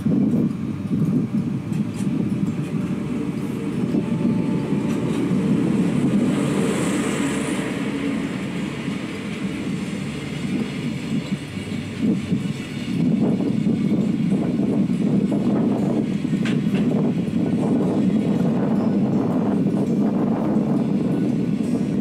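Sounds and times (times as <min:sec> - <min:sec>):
train running on rails: 0:00.0 - 0:22.0.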